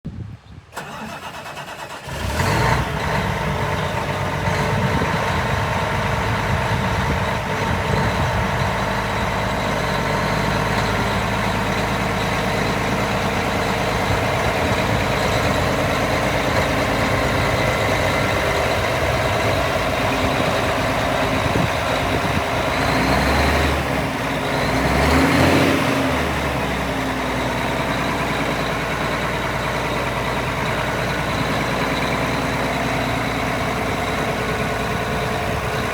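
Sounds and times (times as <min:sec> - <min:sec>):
tractor diesel engine idling: 0:00.7 - 0:35.9.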